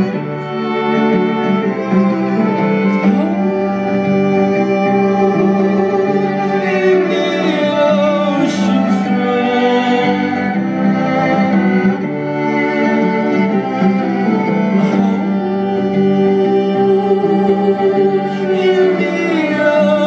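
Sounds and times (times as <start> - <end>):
bowed violin: 0.0 - 20.0.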